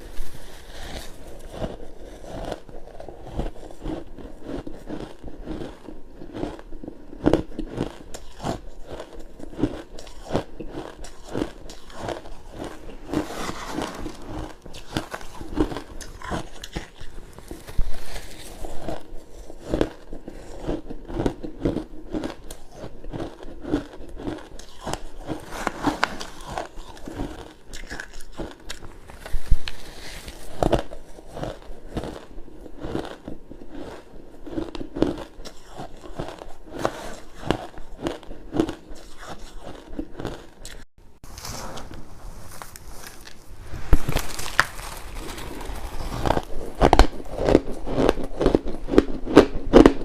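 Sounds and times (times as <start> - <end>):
ice being chewed: 0.0 - 40.9, 44.0 - 50.0.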